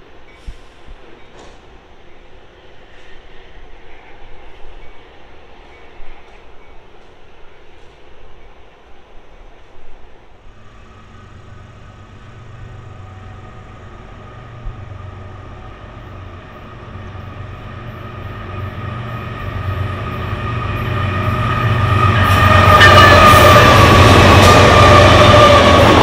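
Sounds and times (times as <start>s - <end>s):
diesel locomotive engines: 0.0s - 26.0s
train wheel and rail clatter: 0.0s - 26.0s.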